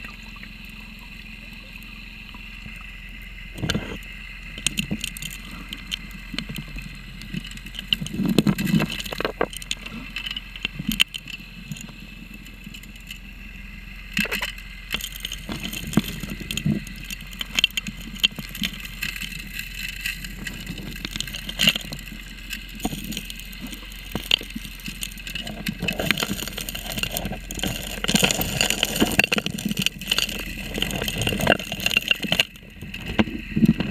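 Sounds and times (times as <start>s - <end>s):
dredge engine drone: 0.0s - 33.9s
stones clicking underwater: 4.6s - 13.2s, 14.2s - 33.9s.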